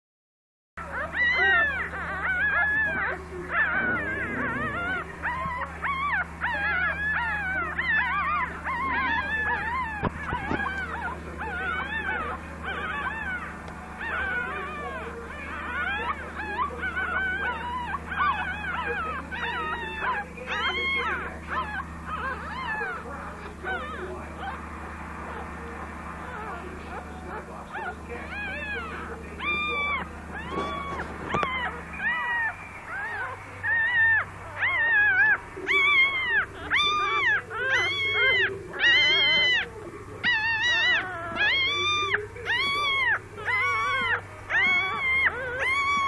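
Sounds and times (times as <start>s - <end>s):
puppies squeaking and whimpering: 0.8s - 46.0s
steady low hum: 0.8s - 46.0s.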